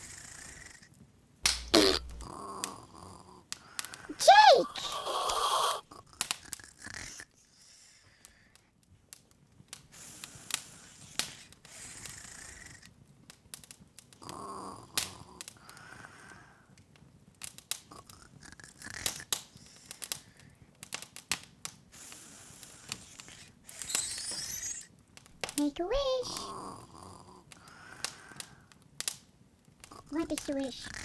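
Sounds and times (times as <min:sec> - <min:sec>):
wood fire crackling and popping: 0:01.4 - 0:07.2, 0:08.2 - 0:31.0.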